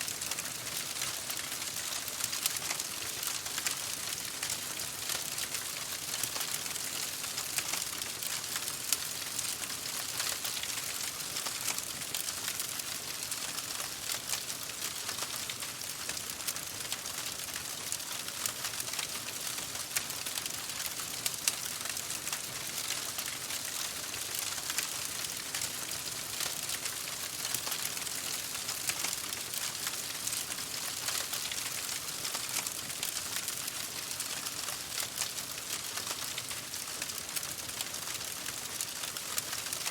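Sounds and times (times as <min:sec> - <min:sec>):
campfire crackling: 0:00.2 - 0:13.4, 0:14.0 - 0:39.8.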